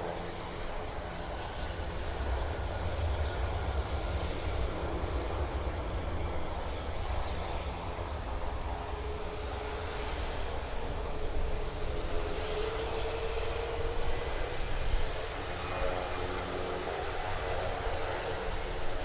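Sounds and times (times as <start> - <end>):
jet engine rumble with whine: 0.0 - 19.0.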